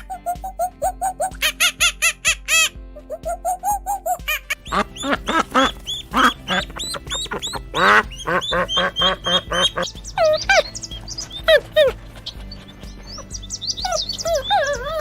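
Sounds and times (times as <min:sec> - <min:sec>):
rapid repeated animal calls: 0:00.0 - 0:15.0.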